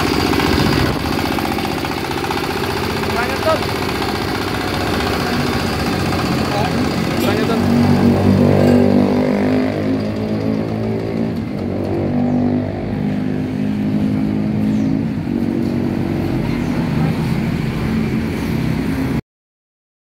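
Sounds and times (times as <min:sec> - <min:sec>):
diesel engine running: 0:00.0 - 0:19.2.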